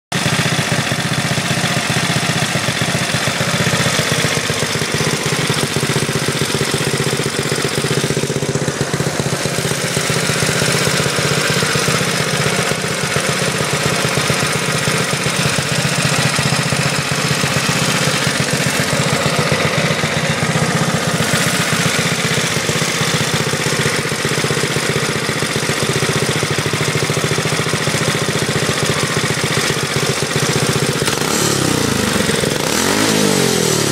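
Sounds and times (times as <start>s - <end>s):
small engine exhaust pulses: 0.2s - 33.9s.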